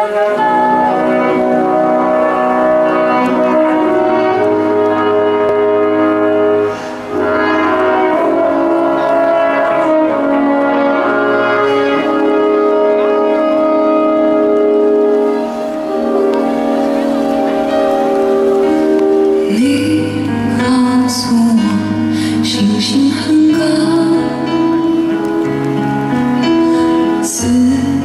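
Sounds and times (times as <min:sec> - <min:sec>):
slow instrumental ballad: 0:00.0 - 0:28.0.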